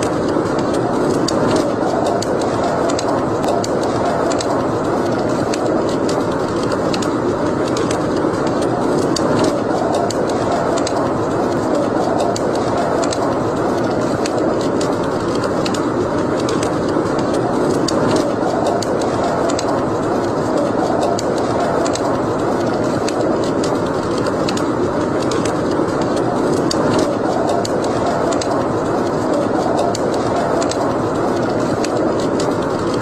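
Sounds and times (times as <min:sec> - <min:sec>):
fire crackling and popping: 0:00.0 - 0:33.0
fire rushing: 0:00.0 - 0:33.0.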